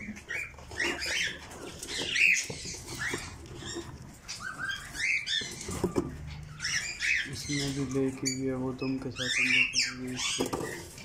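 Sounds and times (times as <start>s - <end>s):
parrots chirping and squawking: 0.0s - 11.0s.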